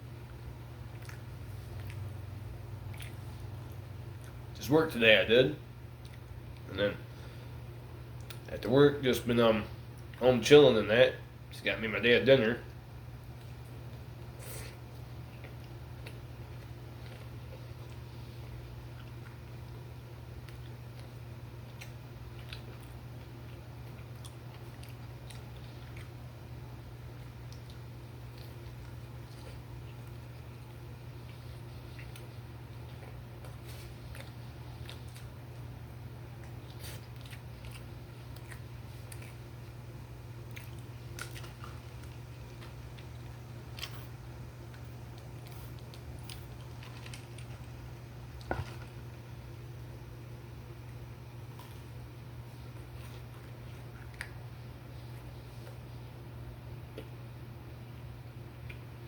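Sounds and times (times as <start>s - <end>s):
steady low hum: 0.0s - 59.0s
person chewing food: 0.2s - 4.6s, 5.9s - 8.5s, 12.7s - 57.3s.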